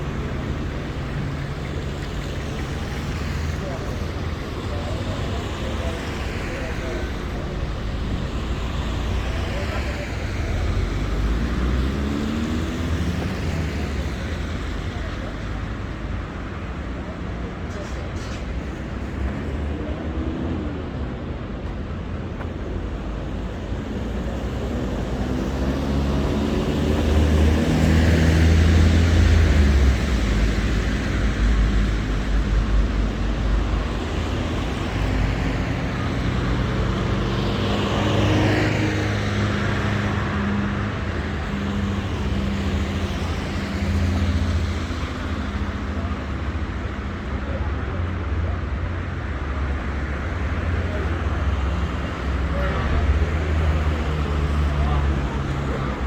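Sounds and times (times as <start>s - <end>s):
vehicles passing close by: 0.0s - 56.0s.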